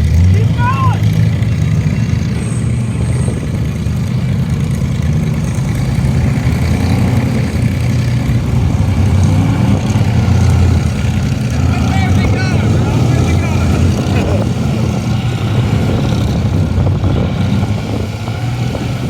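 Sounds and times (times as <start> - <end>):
vehicle engine running at low revs: 0.0 - 19.0.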